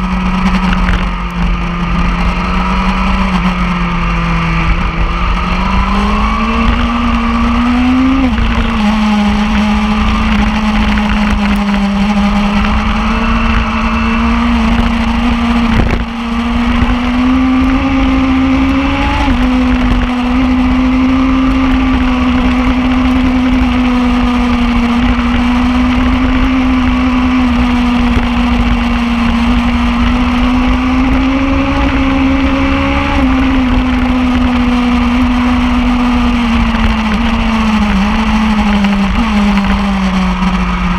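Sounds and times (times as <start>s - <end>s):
heavy low rumble: 0.0s - 40.9s
motorbike engine running high: 0.0s - 40.9s.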